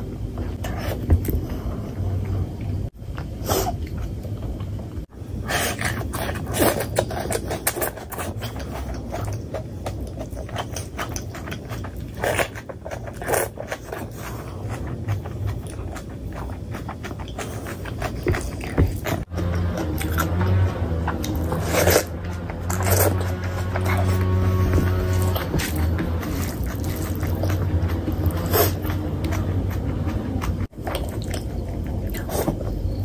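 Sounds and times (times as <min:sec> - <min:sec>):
steady low hum: 0:00.0 - 0:33.0
chewing and lip smacks: 0:05.7 - 0:33.0.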